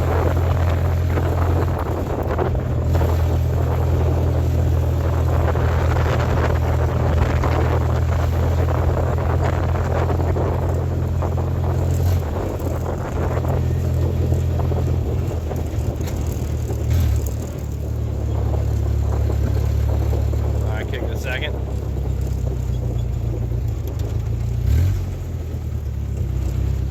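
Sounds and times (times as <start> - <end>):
engine running low drone: 0.0 - 26.9
wind noise on microphone: 0.0 - 26.9.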